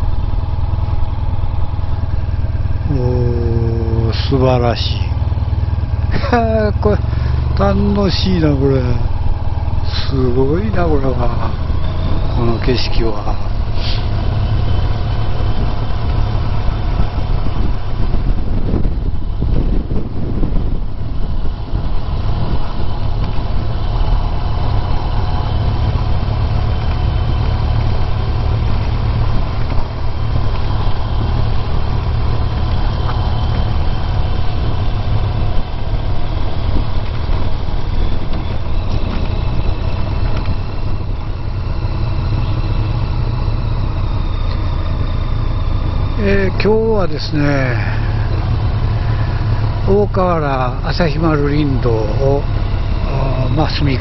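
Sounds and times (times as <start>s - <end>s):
motorcycle engine running: 0.0s - 54.0s
road noise: 0.0s - 54.0s
wind noise: 0.0s - 54.0s.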